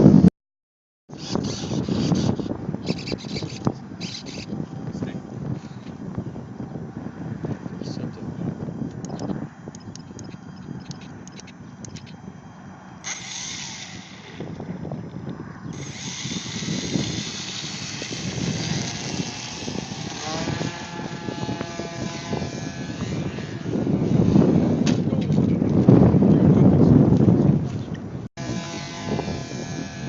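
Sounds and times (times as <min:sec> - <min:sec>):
wind rumble on microphone: 0:00.0 - 0:00.3, 0:01.1 - 0:30.0
model plane motor whining: 0:01.1 - 0:06.7, 0:07.8 - 0:25.0, 0:28.4 - 0:30.0.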